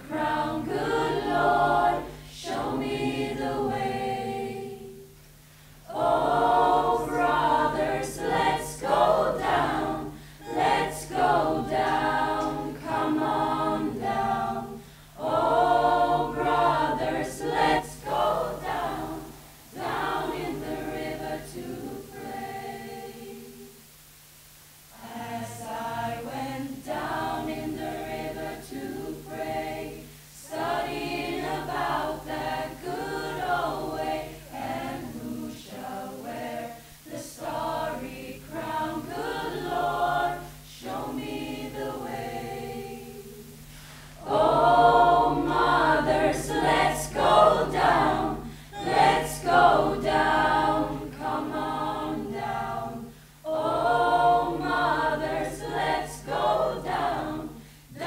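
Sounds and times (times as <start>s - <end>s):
choir singing: 0.0s - 5.1s, 5.9s - 23.9s, 24.9s - 58.0s.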